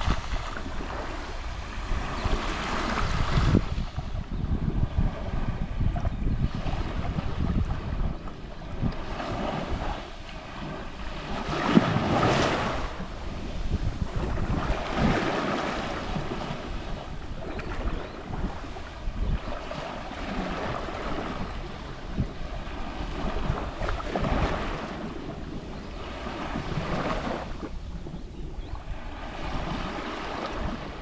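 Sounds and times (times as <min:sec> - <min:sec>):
waves lapping on shore: 0:00.0 - 0:31.0.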